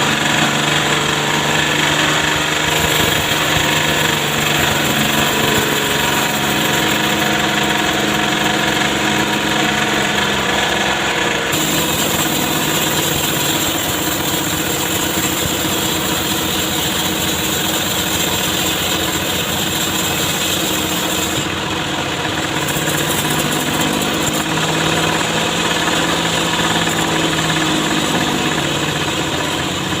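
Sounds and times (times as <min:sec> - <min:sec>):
petrol saw engine running: 0:00.0 - 0:30.0.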